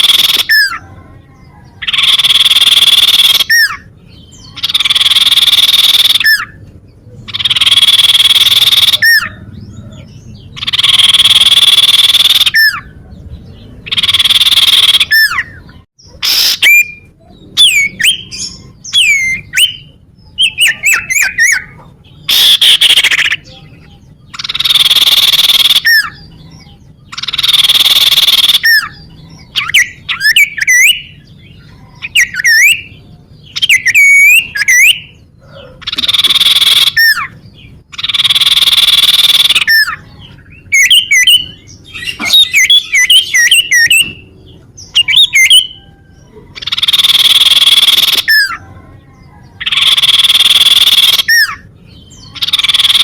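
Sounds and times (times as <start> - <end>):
bird whistled chirps: 0.0 - 0.8, 1.4 - 6.6, 7.3 - 9.4, 10.6 - 13.0, 13.9 - 37.4, 38.0 - 44.2, 44.9 - 48.6, 49.5 - 53.0.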